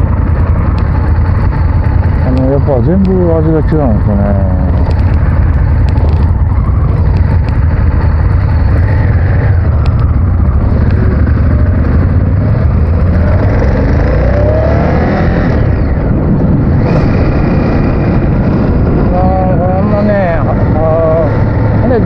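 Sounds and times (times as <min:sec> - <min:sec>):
motorcycle engine running: 0:00.0 - 0:22.0
wind rushing on microphone: 0:02.2 - 0:22.0.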